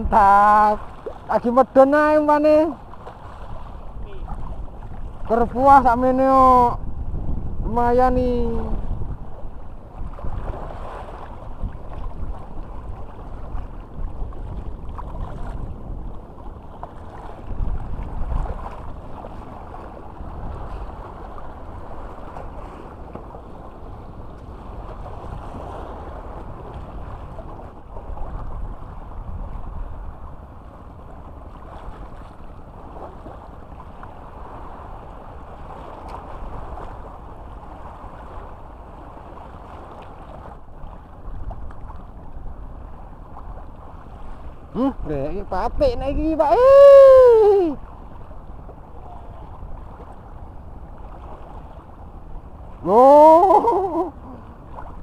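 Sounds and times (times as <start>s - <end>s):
seawater lapping: 0.0s - 6.9s, 7.6s - 55.0s
wind buffeting microphone: 0.0s - 55.0s.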